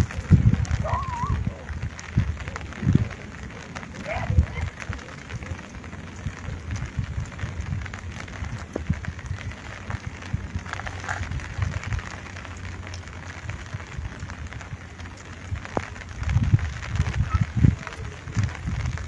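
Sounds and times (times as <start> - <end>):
light rain pattering: 0.0 - 19.0
low rumbling: 0.0 - 19.0.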